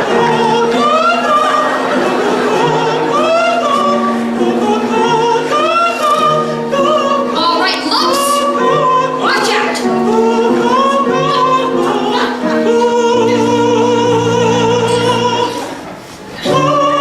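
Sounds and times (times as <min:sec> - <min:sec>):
high voice singing: 0:00.0 - 0:17.0
sustained musical accompaniment: 0:00.0 - 0:17.0.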